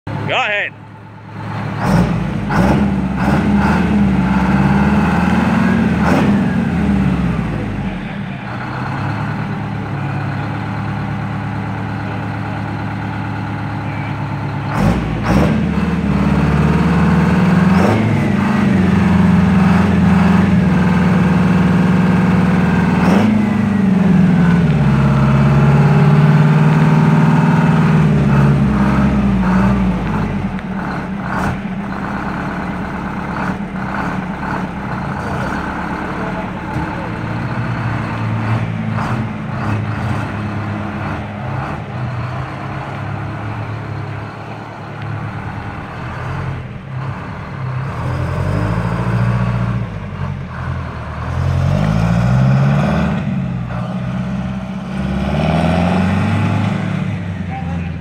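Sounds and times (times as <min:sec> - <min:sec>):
diesel truck engine revving: 0:00.1 - 0:58.0.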